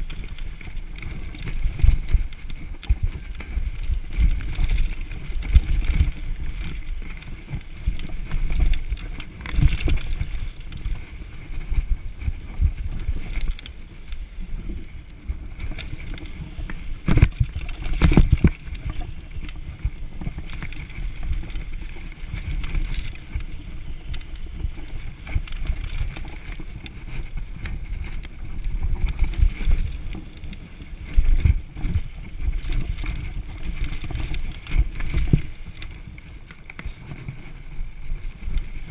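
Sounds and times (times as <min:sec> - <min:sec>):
bike rattling and knocking: 0:00.0 - 0:38.9
bike tyres rumbling over dirt: 0:00.0 - 0:38.9.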